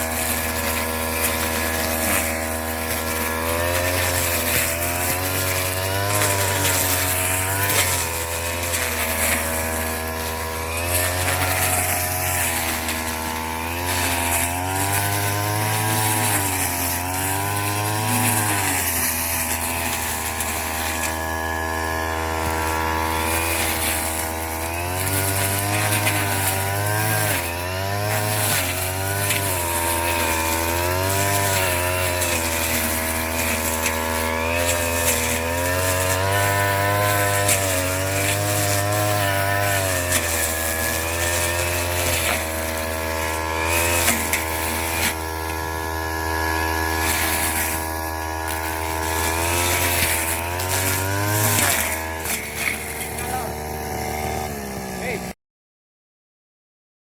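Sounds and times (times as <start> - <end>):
small engine running hard: 0.0 - 55.4.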